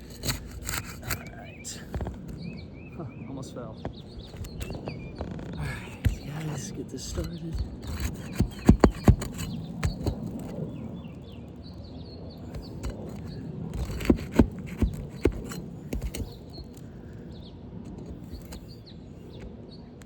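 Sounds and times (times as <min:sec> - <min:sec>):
pry bar scraping roof shingles: 0:00.0 - 0:02.6, 0:03.8 - 0:11.3, 0:12.4 - 0:19.6
birds chirping: 0:00.0 - 0:20.0.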